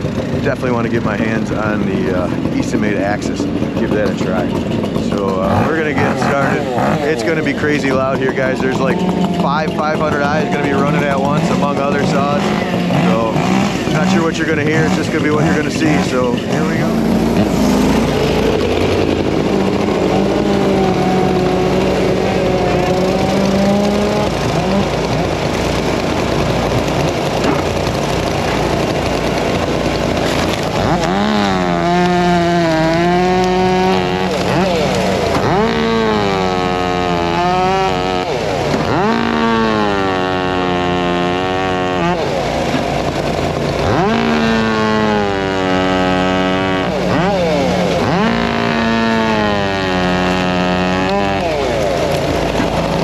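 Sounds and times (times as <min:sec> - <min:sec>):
chainsaws and small engines running: 0:00.0 - 0:53.0.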